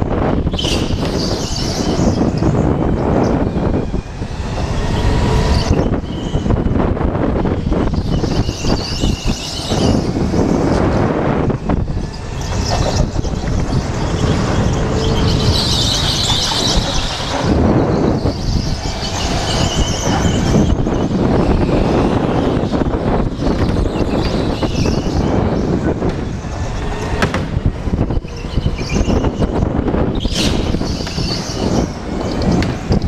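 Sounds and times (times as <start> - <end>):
wind and kart vibration rumble: 0.0 - 33.0
tyres squealing on concrete: 0.4 - 6.7, 11.7 - 27.2, 28.0 - 33.0.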